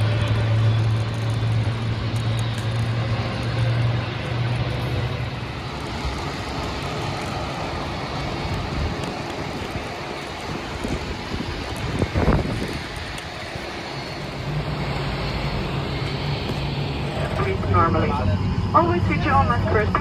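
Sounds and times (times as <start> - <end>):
airliner cabin air rush: 0.0 - 20.0
low hum: 0.0 - 20.0.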